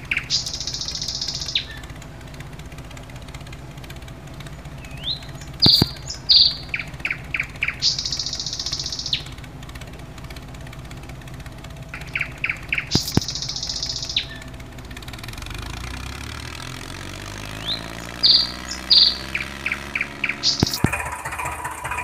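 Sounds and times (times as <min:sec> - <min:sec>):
bird song with buzzy trill: 0:00.0 - 0:03.8, 0:04.5 - 0:10.1, 0:11.1 - 0:20.9
low engine-like hum: 0:00.0 - 0:22.0.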